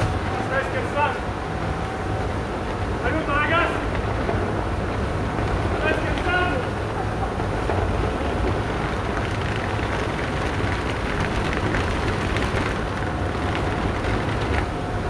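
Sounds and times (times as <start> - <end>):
electric air blowers humming: 0.0 - 15.0.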